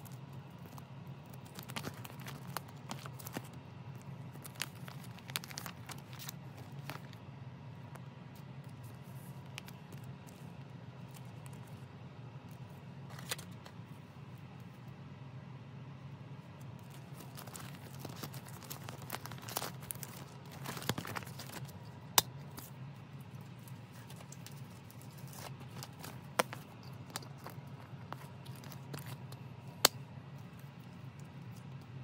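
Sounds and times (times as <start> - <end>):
plastic sleeves rustling: 0.0 - 11.9, 12.5 - 14.1, 16.5 - 32.0
steady low hum: 0.0 - 32.0.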